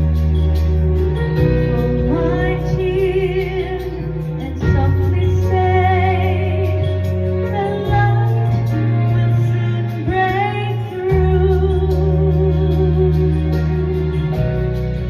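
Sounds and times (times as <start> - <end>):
instrumental backing: 0.0 - 15.0.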